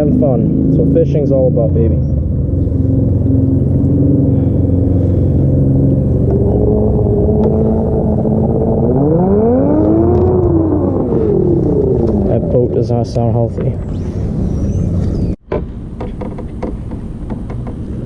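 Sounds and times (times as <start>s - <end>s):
motorboat engine revving: 0.0s - 15.4s.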